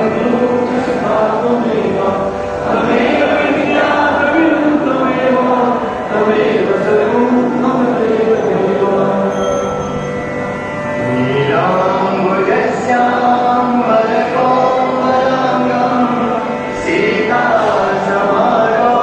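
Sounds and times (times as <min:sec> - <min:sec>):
person singing devotional song: 0:00.0 - 0:10.2, 0:11.0 - 0:19.0
instrumental accompaniment: 0:00.0 - 0:19.0.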